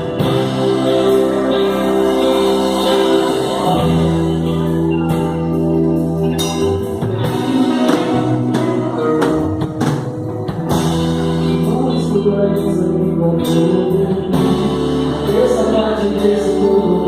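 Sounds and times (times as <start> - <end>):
gospel band playing: 0.0 - 17.0.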